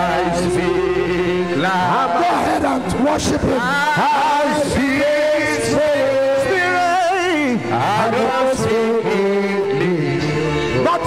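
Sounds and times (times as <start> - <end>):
low music bed: 0.0 - 11.0.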